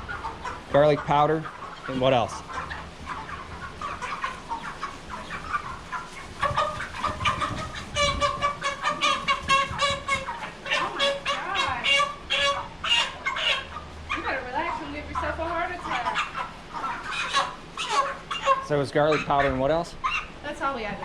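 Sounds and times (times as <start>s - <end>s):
chickens clucking and peeping: 0.0s - 21.0s.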